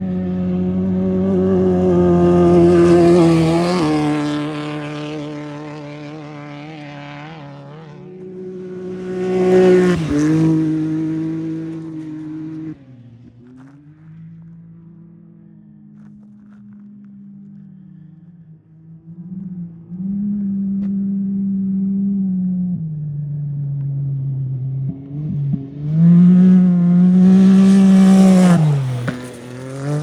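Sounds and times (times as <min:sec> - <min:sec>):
off-road vehicles passing at speed: 0:00.0 - 0:30.0
quieter engine: 0:00.0 - 0:30.0.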